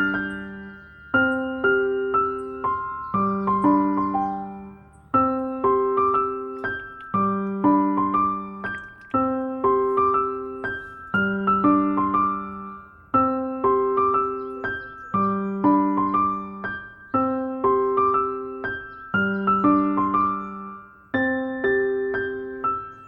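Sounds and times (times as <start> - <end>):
gentle keyboard music: 0.0 - 23.0.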